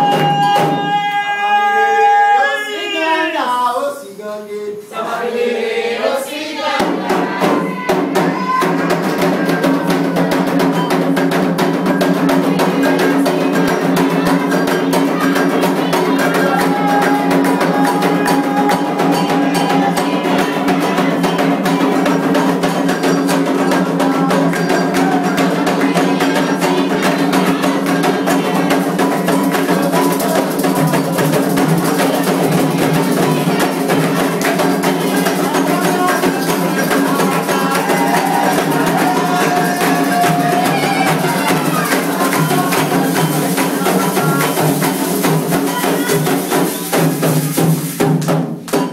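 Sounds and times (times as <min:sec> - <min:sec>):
hand drums: 0:00.0 - 0:02.4, 0:06.7 - 0:48.9.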